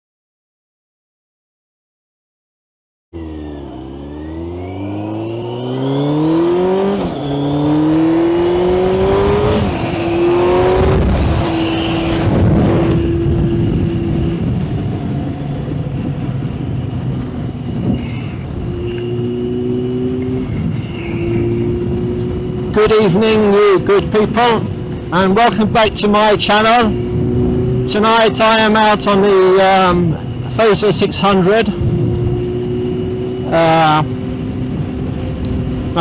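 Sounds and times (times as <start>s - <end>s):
motorcycle engine accelerating: 3.2s - 36.0s
wind rush: 6.2s - 36.0s.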